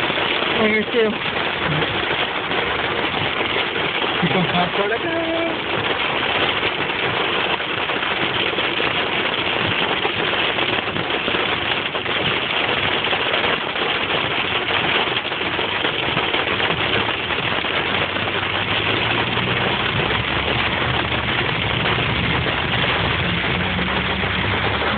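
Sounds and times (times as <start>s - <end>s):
car engine hum: 0.0s - 24.9s
heavy rain on car roof: 0.0s - 24.9s.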